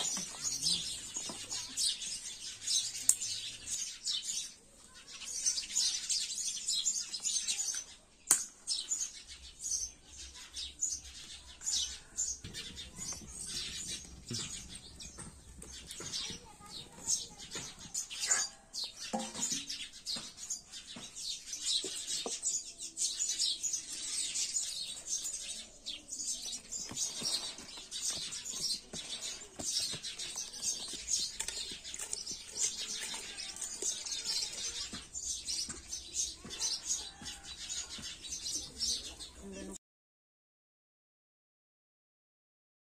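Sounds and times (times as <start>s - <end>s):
small birds chirping: 0.0s - 39.8s.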